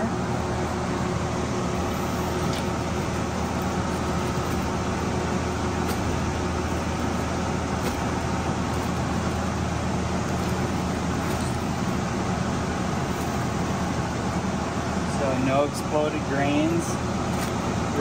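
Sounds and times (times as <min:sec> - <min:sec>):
blower running with low hum: 0:00.0 - 0:18.0.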